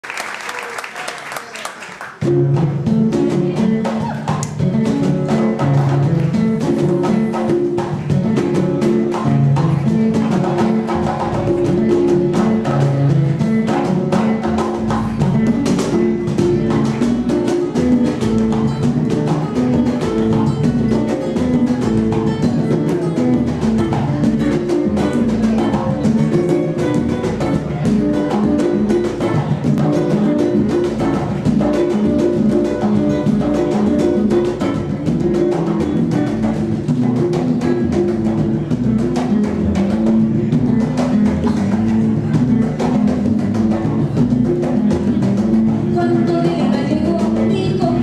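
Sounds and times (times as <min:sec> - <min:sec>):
percussion hits: 0:02.2 - 0:48.0
upright bass: 0:02.2 - 0:48.0.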